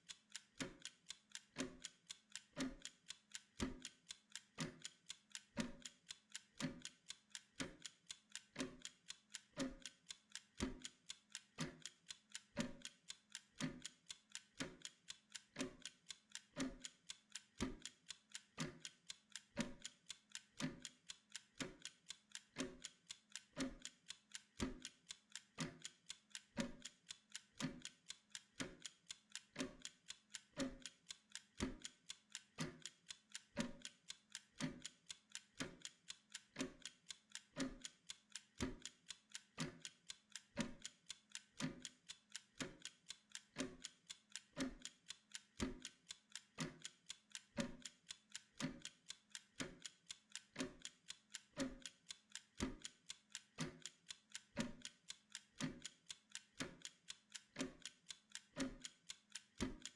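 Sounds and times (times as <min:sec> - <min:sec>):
mechanical kitchen timer ticking: 0:00.0 - 0:59.9.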